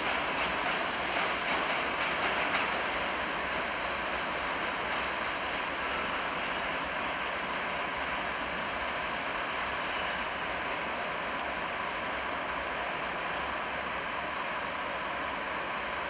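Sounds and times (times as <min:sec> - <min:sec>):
distant locomotive rushing noise: 0:00.0 - 0:16.0.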